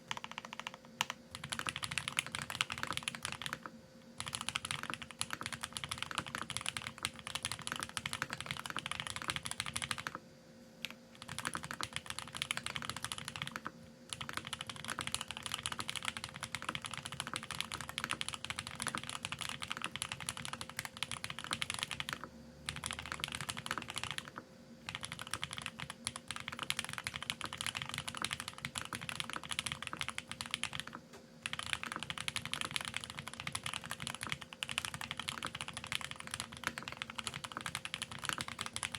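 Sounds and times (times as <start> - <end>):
fast typing on mechanical keyboard: 0.0 - 10.2, 10.8 - 38.9.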